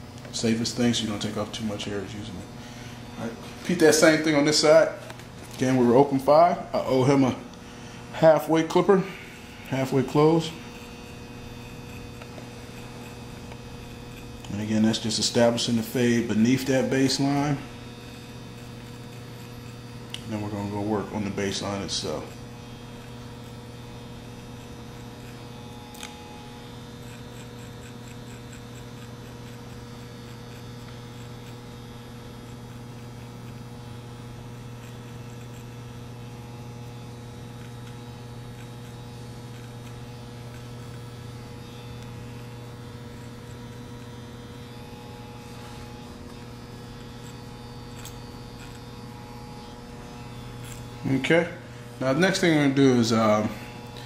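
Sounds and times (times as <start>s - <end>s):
electric hair clipper humming: 0.0s - 54.0s.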